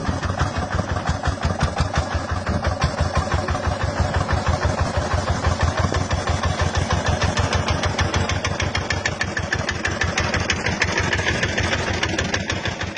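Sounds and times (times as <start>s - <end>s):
truck engine pulsing: 0.0s - 12.9s.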